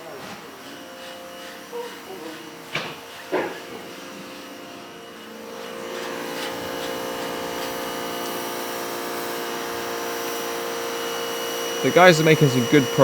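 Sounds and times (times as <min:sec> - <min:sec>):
electric fan motor whirring: 0:00.4 - 0:13.0.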